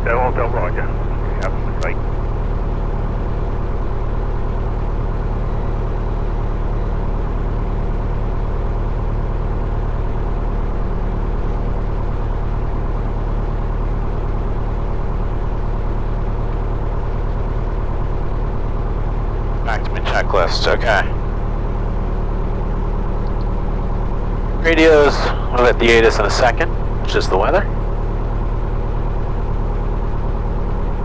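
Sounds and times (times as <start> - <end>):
small plane engine and propeller: 0.0 - 31.0.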